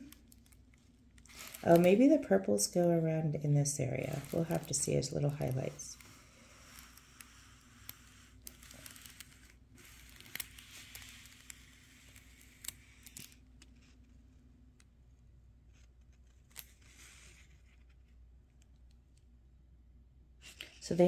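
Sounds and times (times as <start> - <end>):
soft rustling: 0.0 - 19.3
low steady hum: 0.0 - 21.0.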